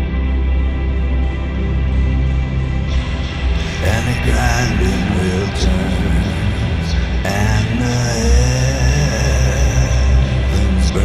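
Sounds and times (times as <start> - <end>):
slow song: 0.0 - 11.0
steady low bass: 0.0 - 11.0.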